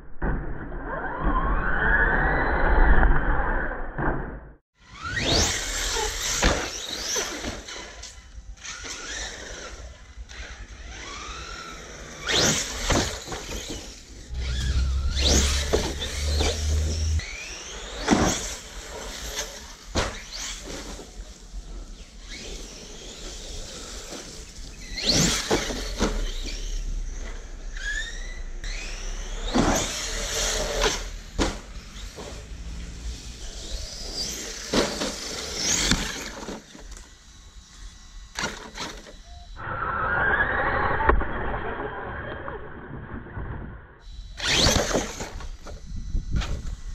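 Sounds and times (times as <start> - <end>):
electric motor whining: 4.9 - 41.4, 44.0 - 46.9.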